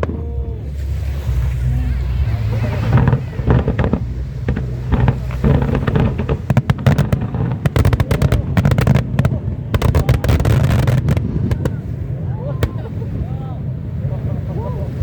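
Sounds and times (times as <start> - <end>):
fireworks bangs and crackles: 0.0 - 13.2
steady low rumble: 0.0 - 15.0.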